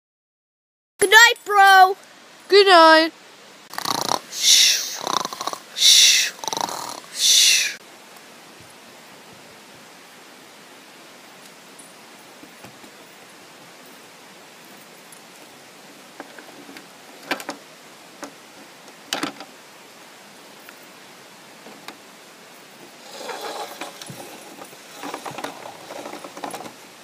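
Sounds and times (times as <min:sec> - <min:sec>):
steady hiss: 0:01.1 - 0:27.0.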